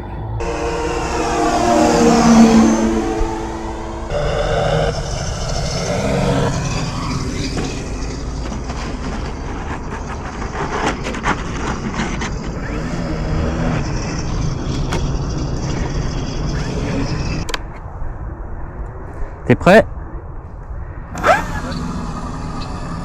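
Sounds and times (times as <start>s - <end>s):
model plane engine drone: 0.0s - 17.5s, 21.2s - 23.0s.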